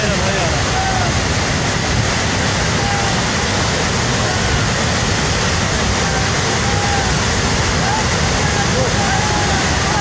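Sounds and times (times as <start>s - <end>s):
flood water rushing: 0.0s - 10.0s.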